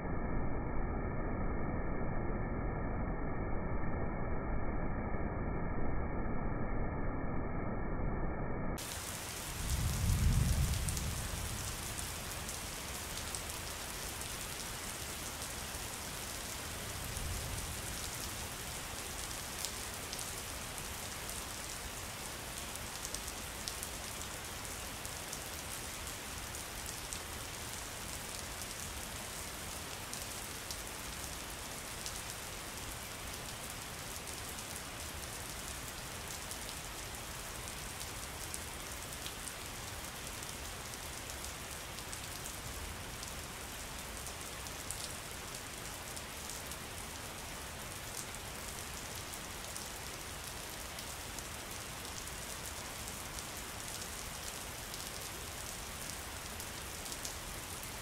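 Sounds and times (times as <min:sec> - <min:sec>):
steady rain falling: 0:08.8 - 0:58.0.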